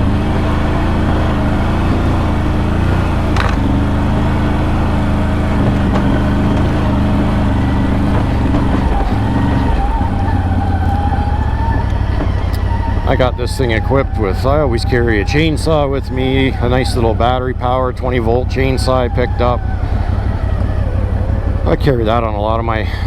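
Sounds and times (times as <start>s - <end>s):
atv engine running: 0.0s - 23.0s
tyres on rough trail: 0.0s - 23.0s.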